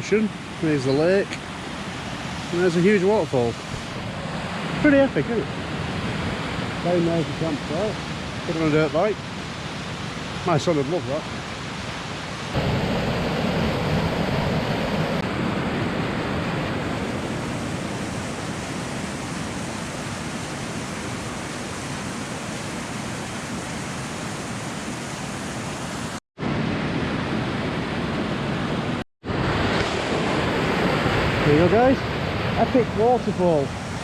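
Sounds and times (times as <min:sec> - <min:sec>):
waterfall roaring: 0:00.0 - 0:15.6, 0:16.2 - 0:34.0.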